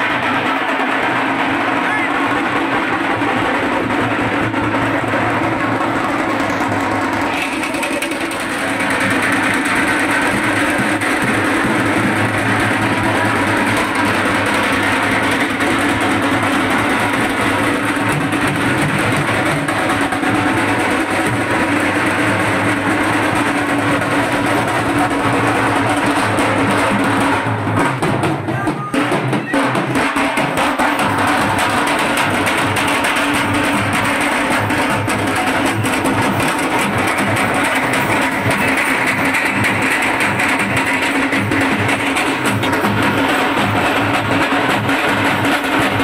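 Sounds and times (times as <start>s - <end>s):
loud driving drumming: 0.0s - 46.0s.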